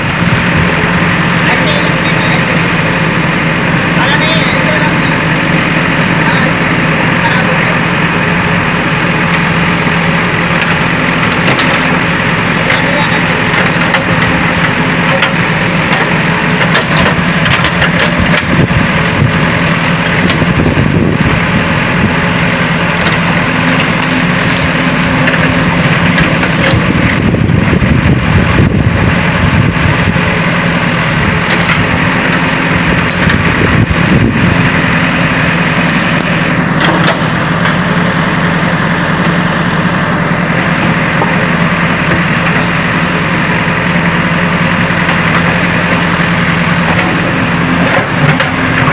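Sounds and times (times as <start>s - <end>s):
heavy diesel machinery engines: 0.0s - 48.9s.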